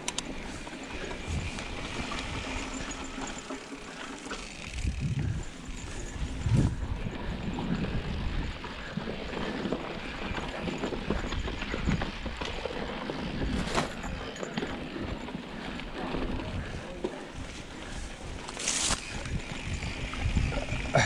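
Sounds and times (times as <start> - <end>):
bike clattering and rattling: 0.0 - 21.0
bike tyres crunching over stones: 0.0 - 21.0
wind rumble on microphone: 1.0 - 2.6, 4.7 - 15.3, 16.0 - 21.0.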